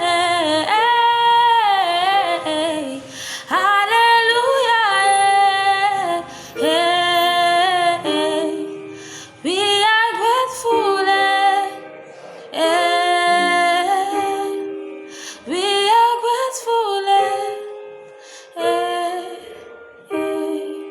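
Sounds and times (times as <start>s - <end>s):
woman singing gospel song: 0.0s - 11.9s, 12.5s - 14.7s, 15.3s - 17.8s, 18.5s - 20.9s.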